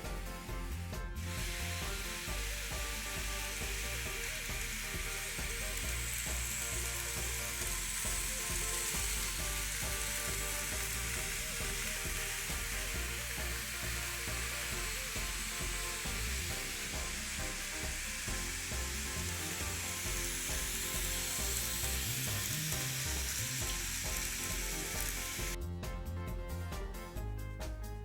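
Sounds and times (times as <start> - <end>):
model train wheels rattling on rail: 1.4 - 25.6.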